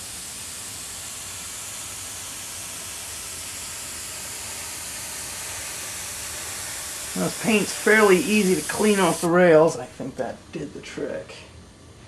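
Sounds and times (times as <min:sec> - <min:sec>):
airbrush hissing: 0:00.0 - 0:09.9.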